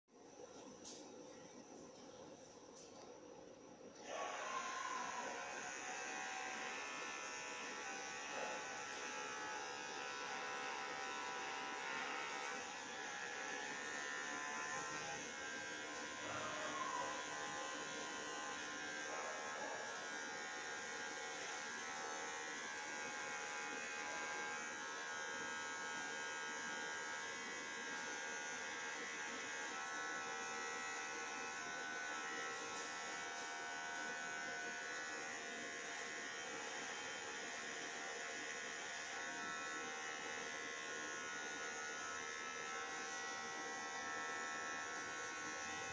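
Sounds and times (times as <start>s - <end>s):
electric hair clipper buzzing: 4.0s - 45.9s.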